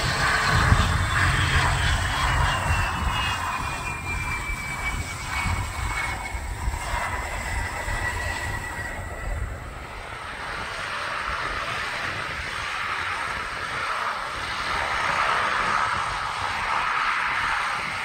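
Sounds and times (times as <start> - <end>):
jet engine whine: 0.0 - 18.0
turboprop engines rushing: 0.0 - 18.0.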